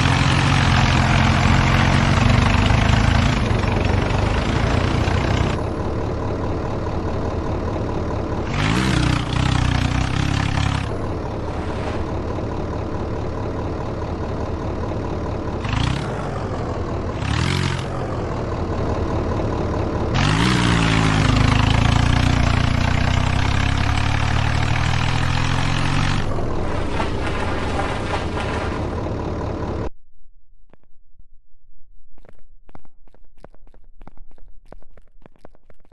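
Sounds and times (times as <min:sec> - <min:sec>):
tractor diesel engines revving: 0:00.0 - 0:29.9.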